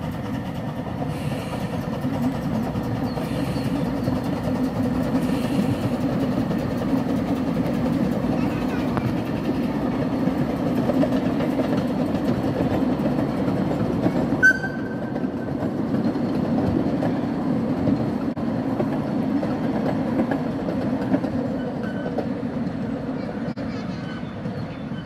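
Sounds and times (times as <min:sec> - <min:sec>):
miniature train wheels rumbling: 0:00.0 - 0:25.0.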